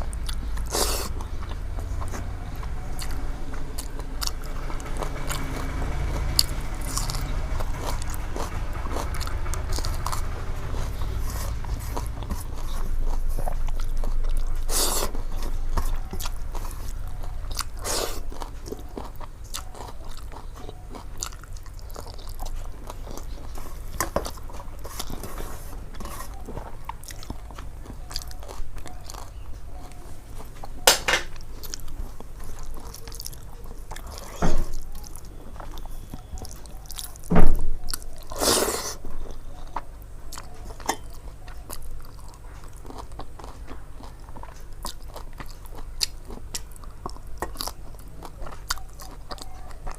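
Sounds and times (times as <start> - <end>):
food crunching: 0.0 - 49.9
person chewing food: 0.0 - 49.9.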